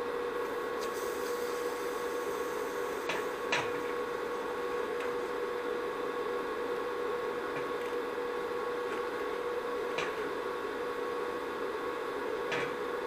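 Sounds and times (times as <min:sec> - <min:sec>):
electric welder humming: 0:00.4 - 0:13.0.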